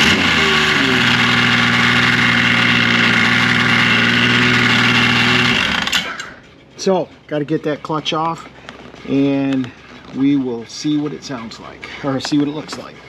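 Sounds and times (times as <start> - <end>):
snowmobile engine idling: 0.0 - 13.0.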